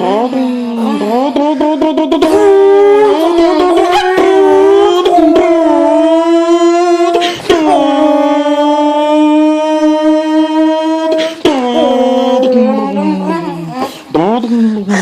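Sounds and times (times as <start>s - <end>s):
person imitating race car engine: 0.0s - 14.6s.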